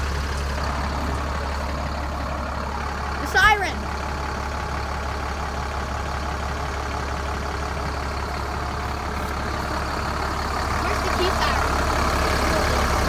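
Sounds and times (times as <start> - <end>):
fire engine idling rumble: 0.0 - 13.0.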